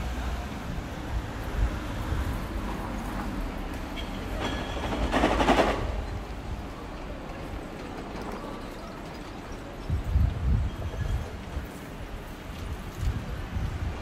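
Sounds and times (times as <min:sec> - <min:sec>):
street low rumble: 0:00.0 - 0:14.0.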